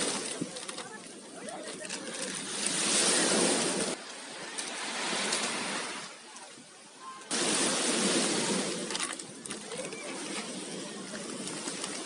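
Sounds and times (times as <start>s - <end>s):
surf: 0.0s - 12.0s
wind: 0.0s - 12.0s.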